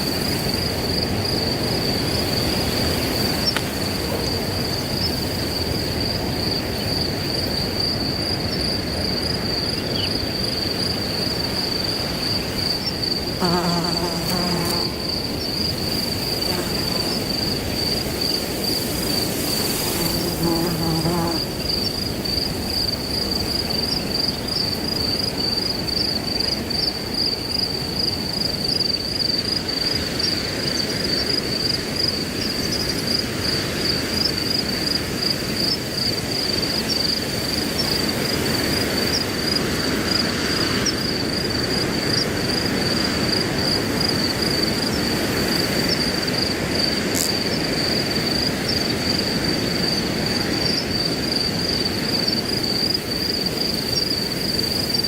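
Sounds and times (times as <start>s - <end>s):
crickets trilling: 0.0s - 55.0s
wind through grass: 0.0s - 55.0s.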